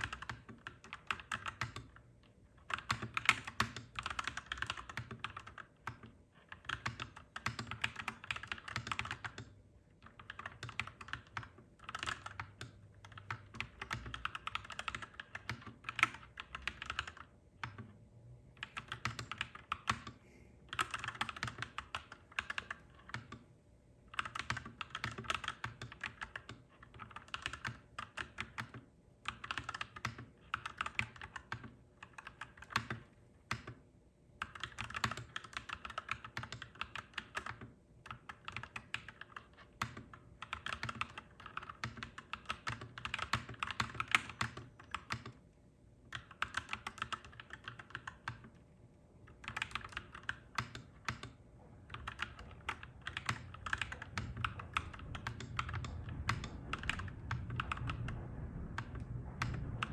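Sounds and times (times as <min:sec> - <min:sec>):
clacky mechanical keyboard typing: 0:00.0 - 0:18.0, 0:18.6 - 0:23.5, 0:24.1 - 0:33.8, 0:34.4 - 0:45.4, 0:46.1 - 0:48.6, 0:49.2 - 0:59.9.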